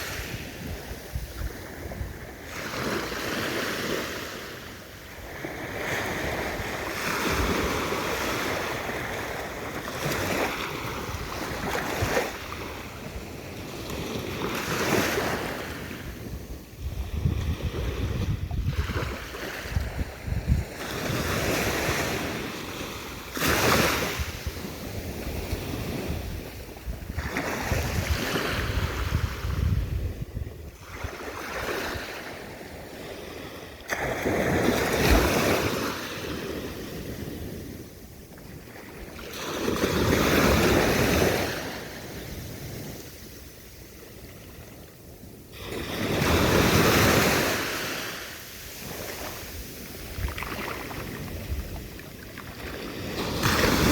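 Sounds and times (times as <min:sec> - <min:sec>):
sea waves breaking on shore: 0:00.0 - 0:53.9.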